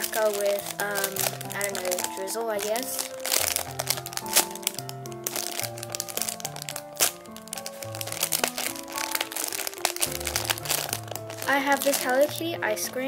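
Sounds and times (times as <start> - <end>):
background music with held notes: 0.0 - 13.0
plastic bag crinkling: 0.0 - 13.0.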